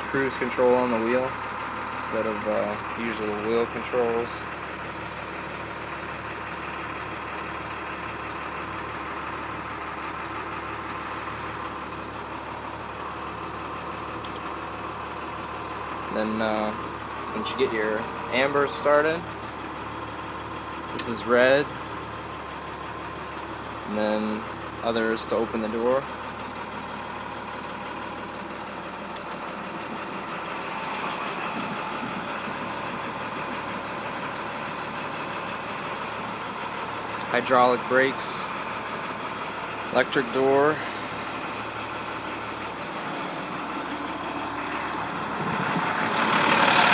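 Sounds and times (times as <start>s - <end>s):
bus diesel engine idling: 0.0s - 46.9s.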